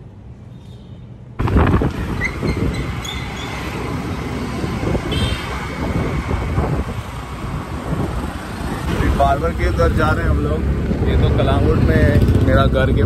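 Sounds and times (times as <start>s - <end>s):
road noise: 0.0s - 13.0s
wind buffeting microphone: 1.4s - 12.8s.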